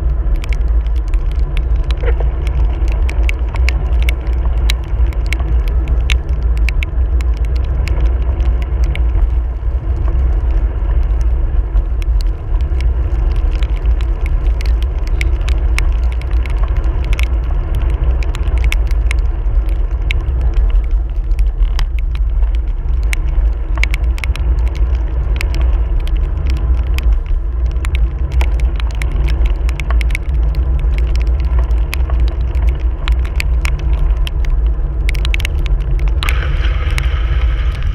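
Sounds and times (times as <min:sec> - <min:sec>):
sharp clicks and ticks: 0:00.0 - 0:37.9
wind rumble on microphone: 0:00.0 - 0:37.9.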